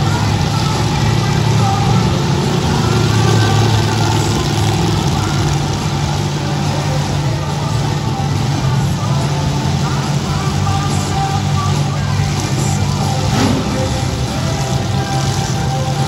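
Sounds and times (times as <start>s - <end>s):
arena noise: 0.0s - 16.0s
truck engines idling: 0.0s - 16.0s.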